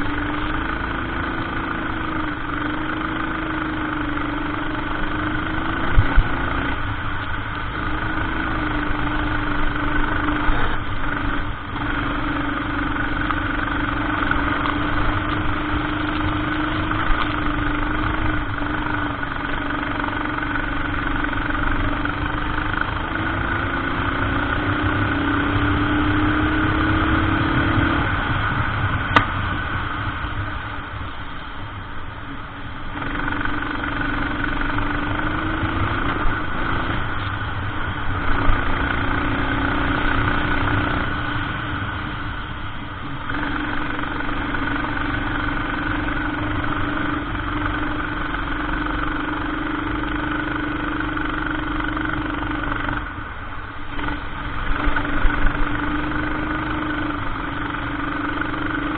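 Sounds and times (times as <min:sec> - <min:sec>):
kart engine racing: 0:00.0 - 0:31.8, 0:32.4 - 0:58.9.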